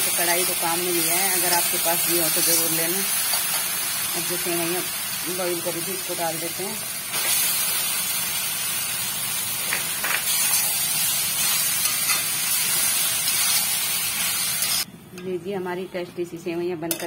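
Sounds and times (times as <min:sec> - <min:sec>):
food sizzling in a pan: 0:00.0 - 0:14.9.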